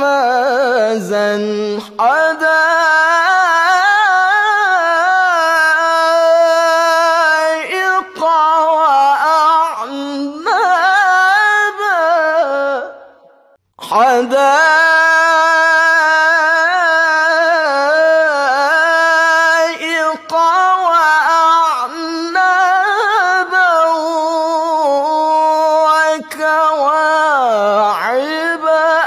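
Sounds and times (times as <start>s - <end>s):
person reciting melodically: 0.0s - 29.0s.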